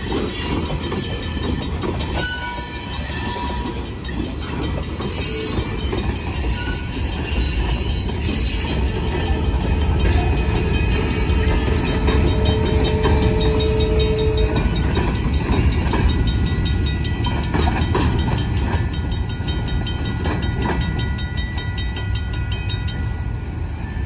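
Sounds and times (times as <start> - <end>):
wheels knocking on rail joints: 0.0 - 23.0
freight train rumbling past: 0.0 - 24.0
mechanical crossing bell ringing: 0.1 - 23.5.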